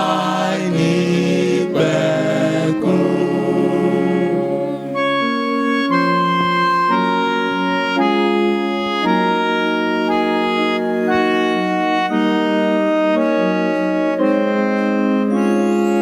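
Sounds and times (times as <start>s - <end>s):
organ-like keyboard chords: 0.0s - 16.0s.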